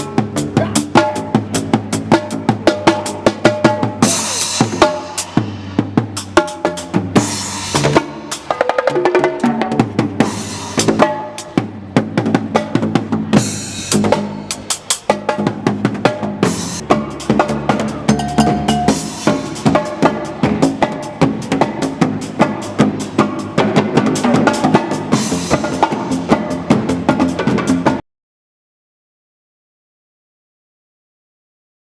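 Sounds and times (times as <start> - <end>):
percussion ensemble playing: 0.0 - 28.0.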